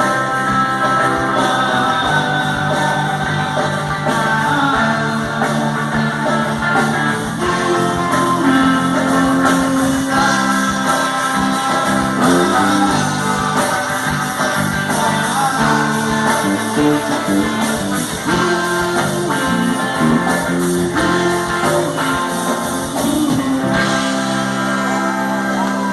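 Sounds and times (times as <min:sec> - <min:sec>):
band song with guitar and vocals: 0:00.0 - 0:25.9.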